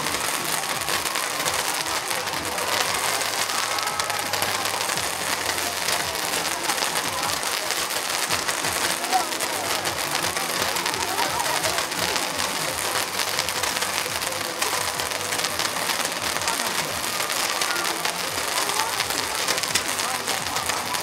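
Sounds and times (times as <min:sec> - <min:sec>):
firework fountains hissing and crackling: 0:00.0 - 0:21.0.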